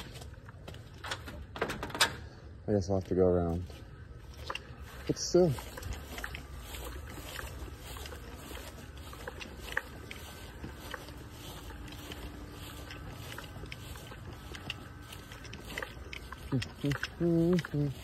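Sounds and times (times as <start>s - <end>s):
footsteps on grass: 0.0s - 1.4s, 2.4s - 18.0s
faint steady hum: 0.0s - 18.0s.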